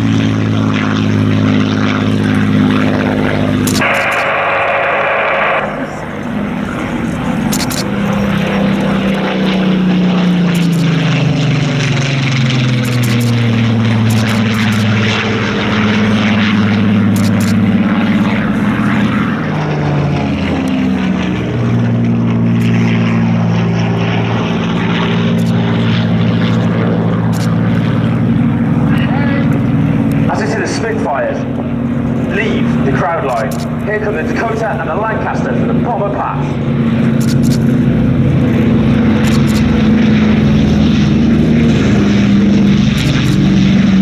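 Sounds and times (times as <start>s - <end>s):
multi-engine propeller aircraft drone: 0.0s - 44.0s
propeller plane engine passing: 0.0s - 44.0s.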